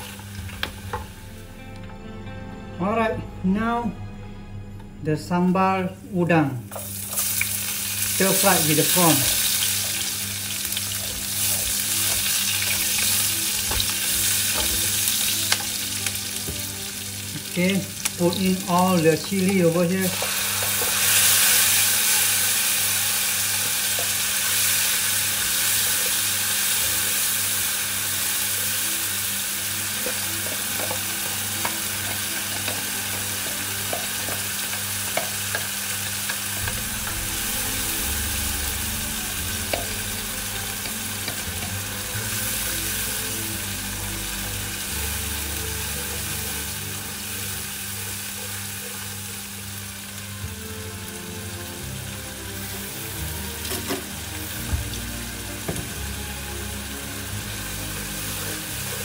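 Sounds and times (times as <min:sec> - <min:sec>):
paste sizzling in hot oil: 0:06.7 - 0:59.0.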